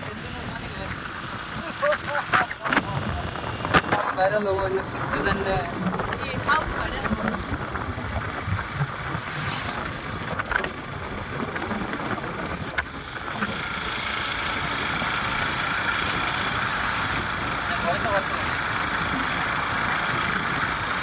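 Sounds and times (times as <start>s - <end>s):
motorcycle engine running: 0.0s - 21.0s
road and wind noise: 0.0s - 21.0s.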